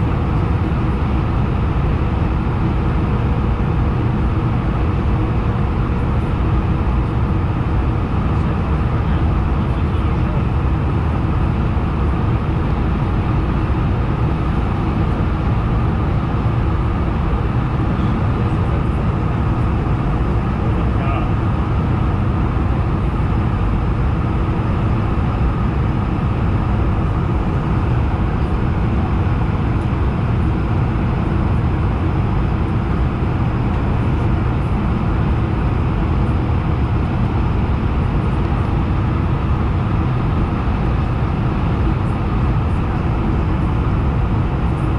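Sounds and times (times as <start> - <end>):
jet engine drone: 0.0 - 44.9.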